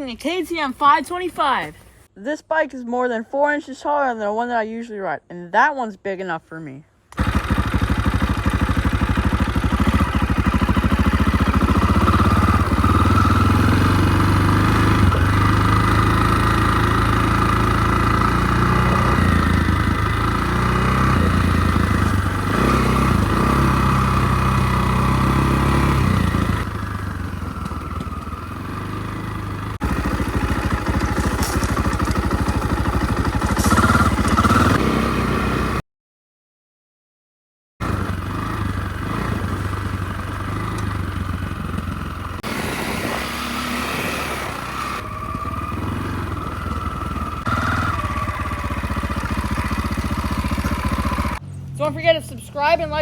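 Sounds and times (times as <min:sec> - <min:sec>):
dirt bike engine revving: 0:07.2 - 0:35.8, 0:37.8 - 0:53.0.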